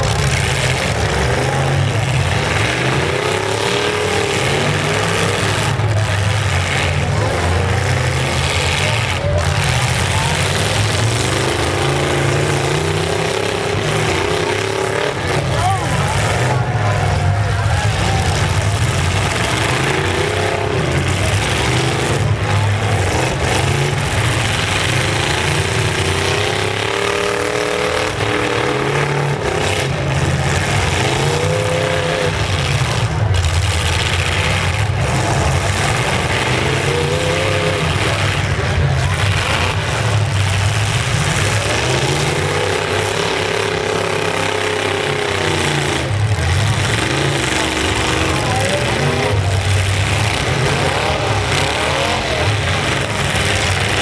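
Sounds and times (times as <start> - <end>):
engines running steadily: 0.0 - 54.0
pickup truck engines revving: 0.0 - 54.0.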